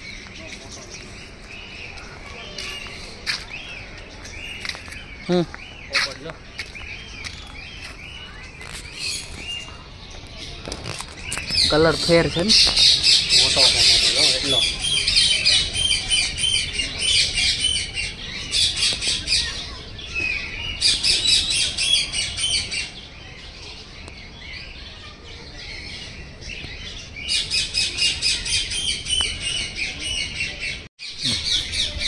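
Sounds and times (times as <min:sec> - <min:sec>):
birds chattering harshly: 0:00.0 - 0:32.0.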